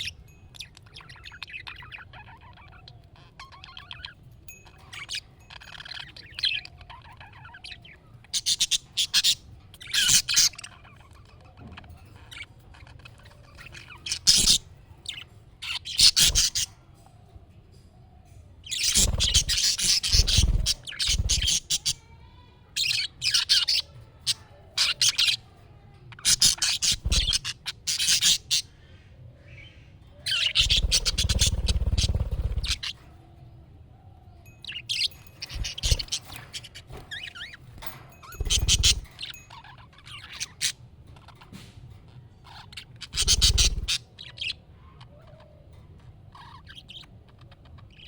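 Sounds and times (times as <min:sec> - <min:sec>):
budgerigars chirping and chattering: 0:00.0 - 0:17.1, 0:18.3 - 0:25.4, 0:26.1 - 0:33.1, 0:34.4 - 0:48.0.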